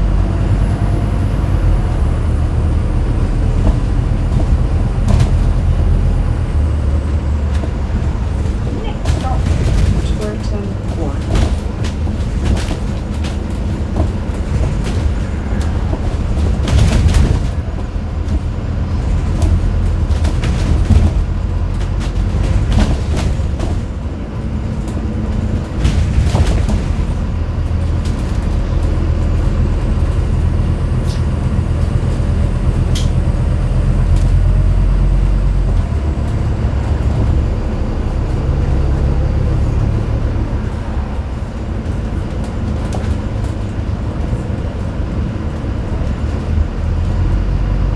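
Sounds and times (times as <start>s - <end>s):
bus body knocks and rattles: 0.0s - 47.9s
bus diesel engine drone: 0.0s - 47.9s.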